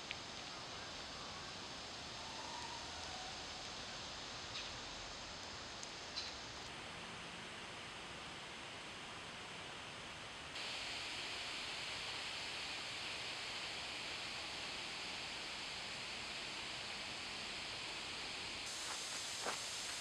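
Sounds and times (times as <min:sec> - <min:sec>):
outdoor ambience hiss: 0:00.0 - 0:20.0.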